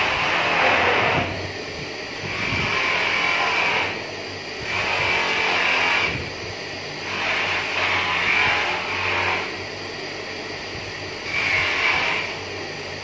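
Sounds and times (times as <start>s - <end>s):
polishing motor humming: 0.0s - 13.0s.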